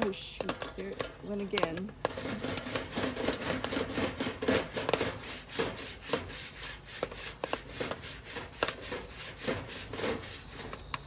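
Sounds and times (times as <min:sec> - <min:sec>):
popcorn popping: 0:00.0 - 0:11.0.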